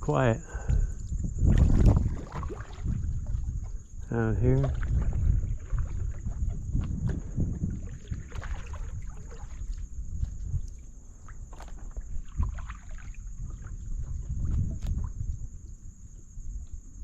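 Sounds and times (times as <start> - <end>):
water and wind around hull: 0.0 - 17.0
knocks and clicks from boat: 0.6 - 16.8.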